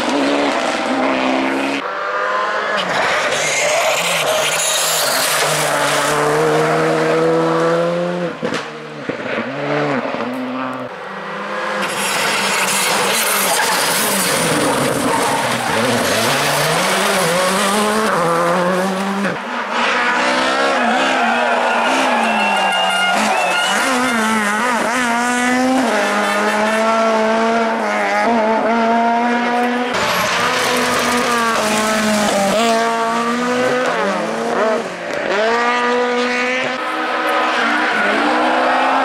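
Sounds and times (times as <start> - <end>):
rally car engines at full throttle: 0.0 - 39.0.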